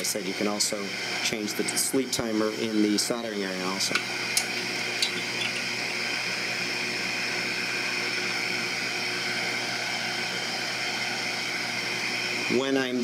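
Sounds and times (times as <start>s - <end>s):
hot-air blower running: 0.0s - 13.0s.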